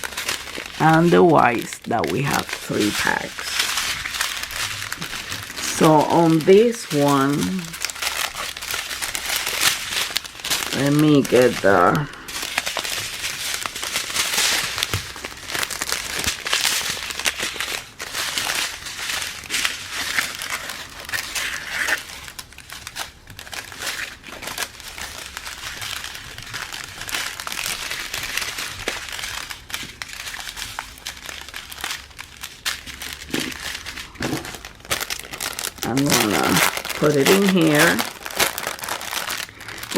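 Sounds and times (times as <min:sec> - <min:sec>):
plastic packets crinkling: 0:00.0 - 0:39.9.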